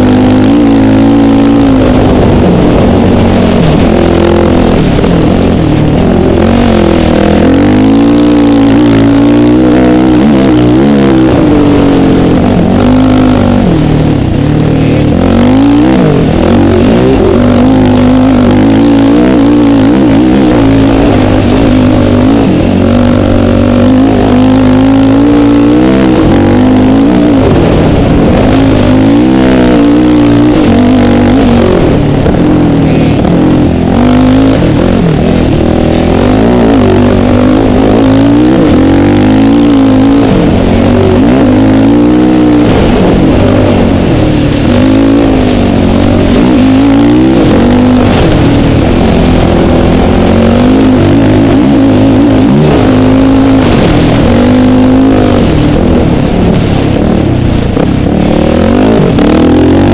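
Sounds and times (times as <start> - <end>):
dirt bike engine revving: 0.0 - 59.9
wind rush: 0.0 - 59.9.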